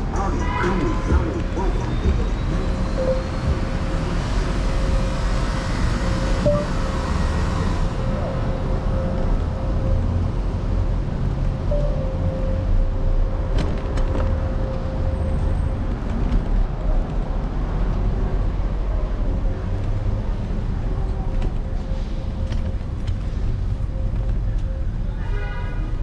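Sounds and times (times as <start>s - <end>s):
road and wind rumble: 0.0s - 26.0s
street traffic: 0.0s - 26.0s.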